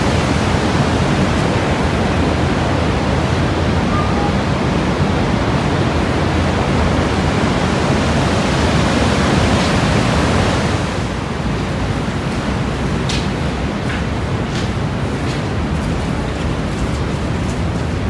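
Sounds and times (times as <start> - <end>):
heavy rush of falling water: 0.0 - 18.0.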